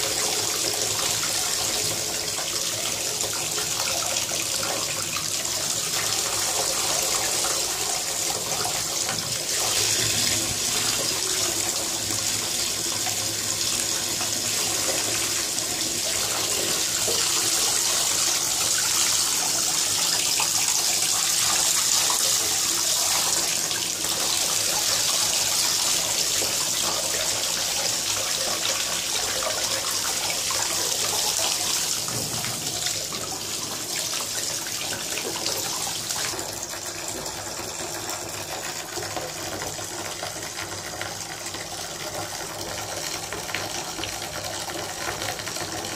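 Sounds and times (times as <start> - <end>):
bath tap water splashing: 0.0 - 45.9.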